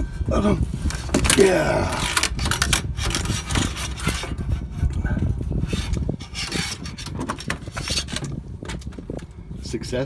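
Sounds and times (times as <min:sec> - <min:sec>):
screwdriver scraping in metal duct: 0:00.0 - 0:09.0.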